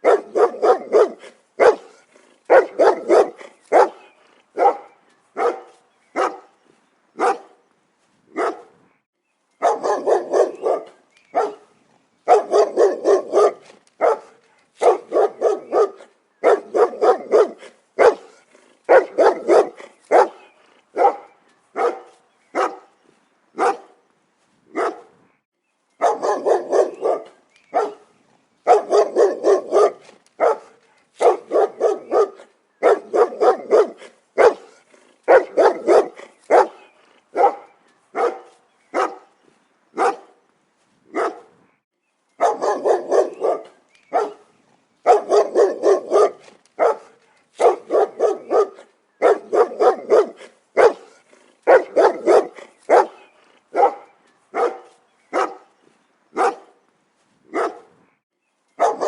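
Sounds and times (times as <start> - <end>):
dog barking: 0.0 - 6.5, 7.2 - 7.6, 8.3 - 8.8, 9.6 - 11.7, 12.3 - 22.9, 23.6 - 24.0, 24.7 - 25.1, 26.0 - 39.3, 40.0 - 40.4, 41.1 - 41.6, 42.4 - 55.7, 56.4 - 56.8, 57.5 - 57.9, 58.8 - 59.0.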